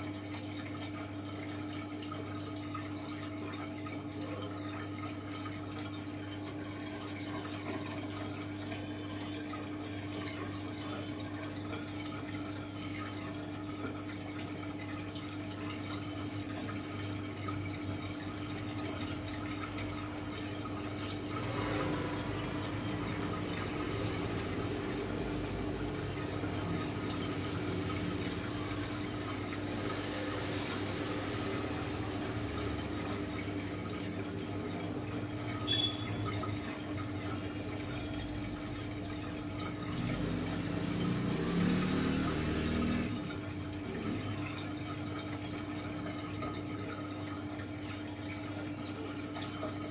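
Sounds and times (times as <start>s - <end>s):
low pump hum: 0.0s - 49.9s
water trickling and splashing: 0.0s - 49.9s.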